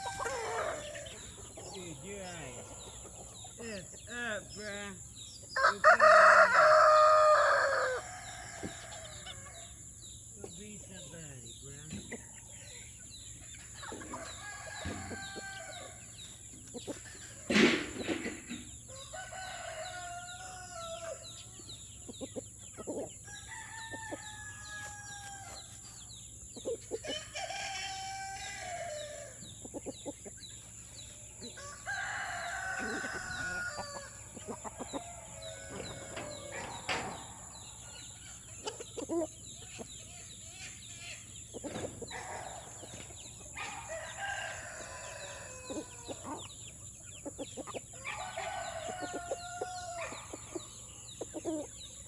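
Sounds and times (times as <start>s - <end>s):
chickens clucking: 0.0s - 52.0s
roosters crowing: 0.0s - 52.0s.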